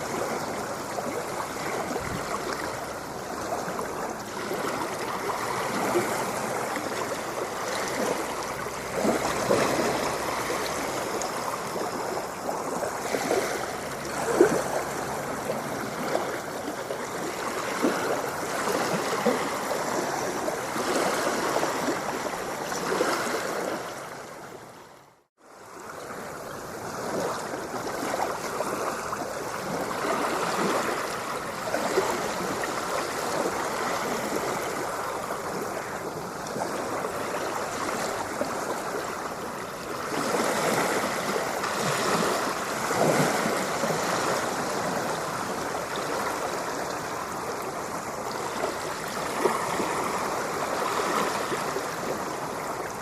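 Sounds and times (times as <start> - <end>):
splashing gurgling water: 0.0 - 53.0.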